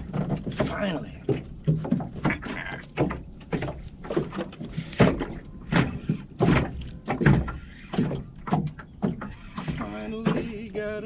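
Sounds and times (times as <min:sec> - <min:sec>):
knocks and thumps against boat: 0:00.0 - 0:11.0.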